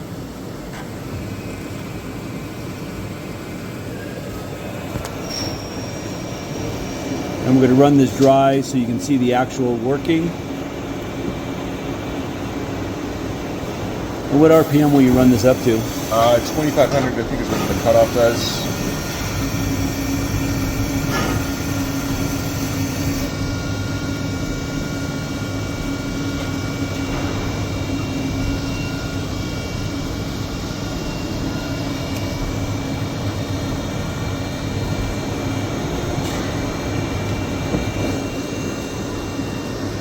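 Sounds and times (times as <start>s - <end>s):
machine hum: 0.0s - 40.0s
machine whining tones: 0.7s - 40.0s.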